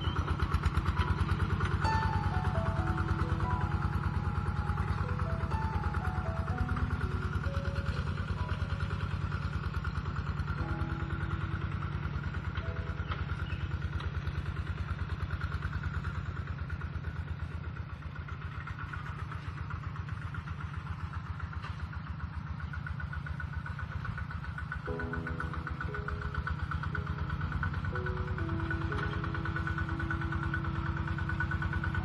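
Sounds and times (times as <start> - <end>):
diesel tractor engine chugging: 0.0 - 32.0.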